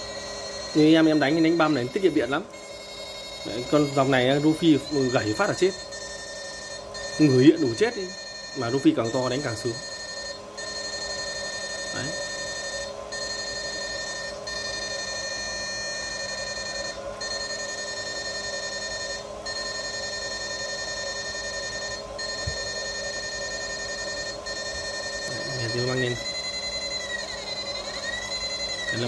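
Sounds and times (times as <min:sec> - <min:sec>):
high electrical whine: 0:00.0 - 0:29.0
low electrical hum: 0:00.0 - 0:29.0.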